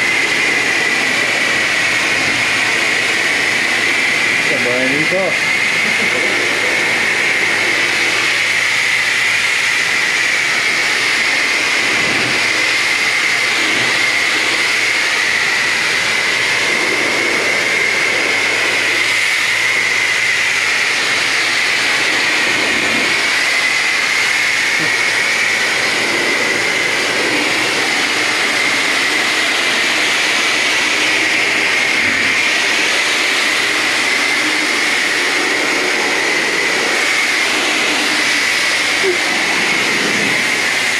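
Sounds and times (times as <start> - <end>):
pressure washer spraying water: 0.0 - 40.9.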